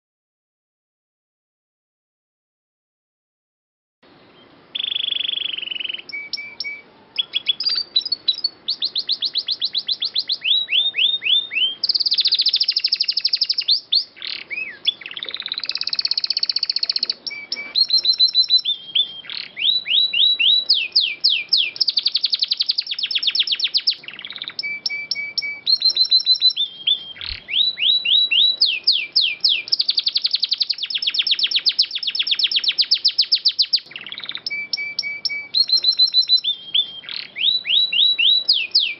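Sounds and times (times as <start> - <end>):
canary singing: 4.3 - 38.9.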